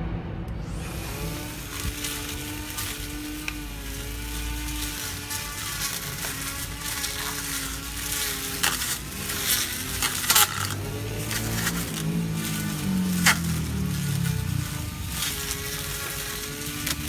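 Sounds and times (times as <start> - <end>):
electric grass trimmer whining: 0.6 - 17.0
hiss of grass being cut: 0.6 - 17.0
sharp crackles: 0.6 - 17.0.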